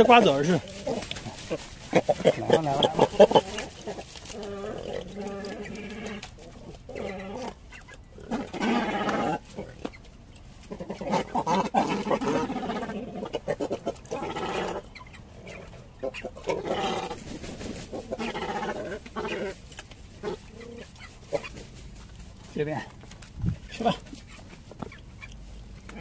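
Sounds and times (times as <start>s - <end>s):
cormorants calling: 0.0s - 21.8s.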